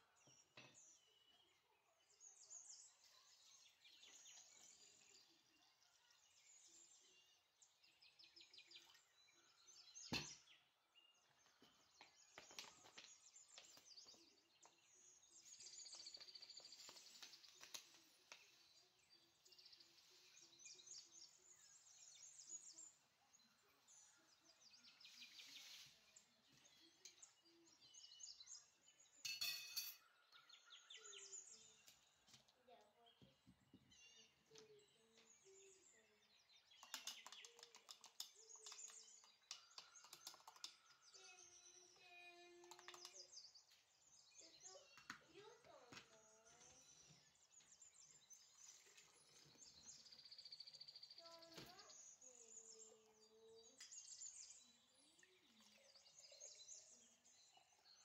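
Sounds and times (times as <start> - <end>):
faint bird chirping: 0.0 - 58.0.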